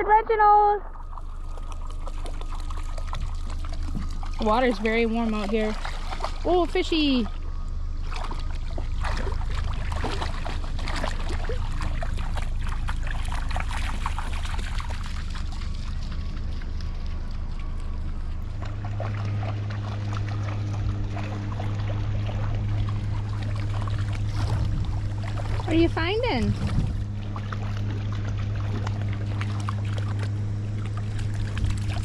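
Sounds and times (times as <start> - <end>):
lake water splashing: 0.0 - 32.0
low rumble: 0.0 - 32.0.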